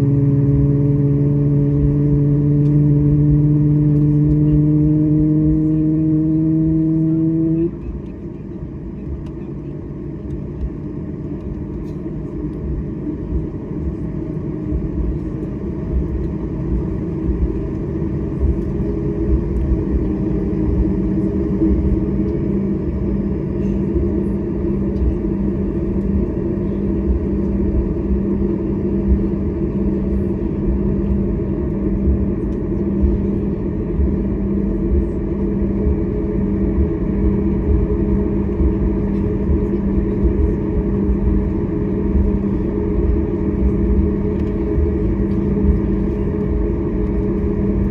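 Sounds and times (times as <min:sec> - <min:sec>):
airplane cabin rumble: 0:00.0 - 0:47.9
low hum: 0:00.0 - 0:47.9.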